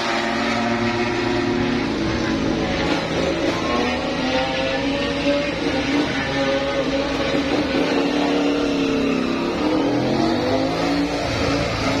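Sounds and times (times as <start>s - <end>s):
engines revving: 0.0s - 12.0s.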